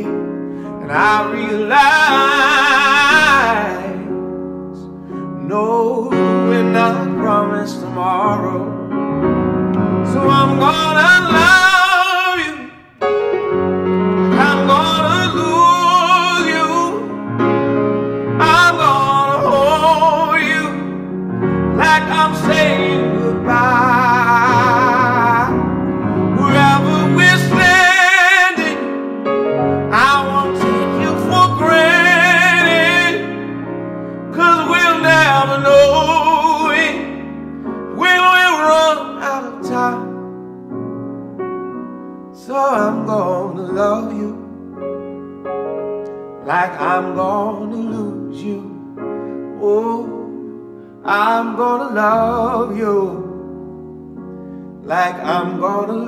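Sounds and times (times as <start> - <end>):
man singing soul ballad: 0.0 - 9.1, 9.8 - 13.0, 14.0 - 40.4, 42.3 - 44.6, 46.4 - 53.6, 54.8 - 56.0
grand piano: 0.0 - 56.0.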